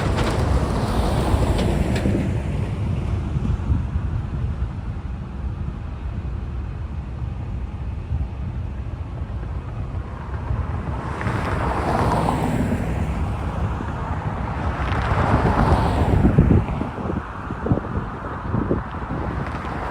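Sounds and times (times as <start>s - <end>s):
vehicle tyre noise passing: 0.0s - 19.9s
wind buffeting microphone: 0.0s - 19.9s.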